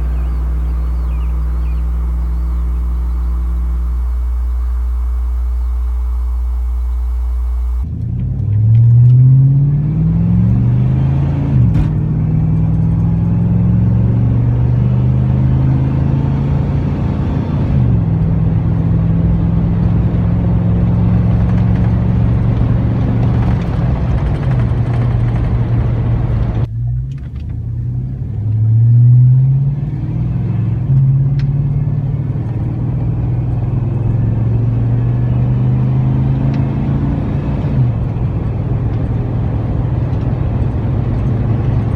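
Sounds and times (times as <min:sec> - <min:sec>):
truck engine drone from cab: 0:00.0 - 0:41.9.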